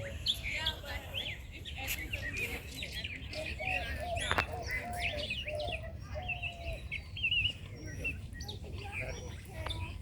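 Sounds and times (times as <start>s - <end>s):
birds chirping and warbling: 0.0s - 10.0s.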